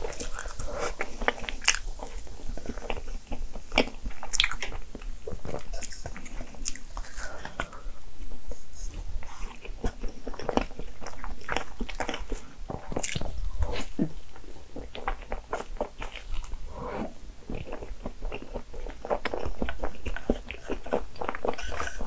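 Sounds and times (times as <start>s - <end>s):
chewing and mouth smacks: 0.0s - 7.9s, 8.9s - 22.0s.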